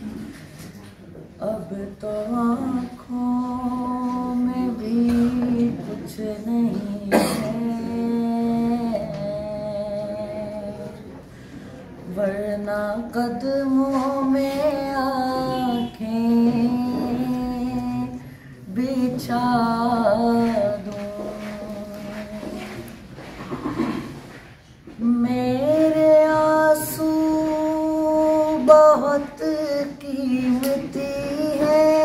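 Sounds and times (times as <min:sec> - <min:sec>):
boy singing unaccompanied: 0:01.4 - 0:11.2, 0:12.1 - 0:23.0, 0:24.9 - 0:32.0.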